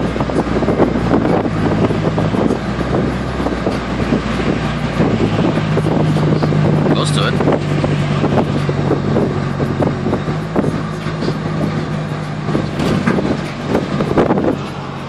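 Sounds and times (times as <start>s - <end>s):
car engine hum: 0.0s - 15.0s
road and wind noise: 0.0s - 15.0s.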